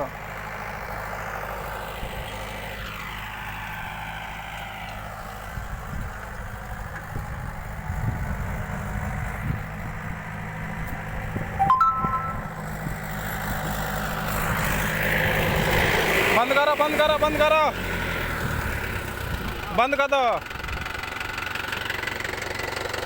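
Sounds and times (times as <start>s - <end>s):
tractor diesel engine running: 0.0s - 11.6s, 12.5s - 23.0s.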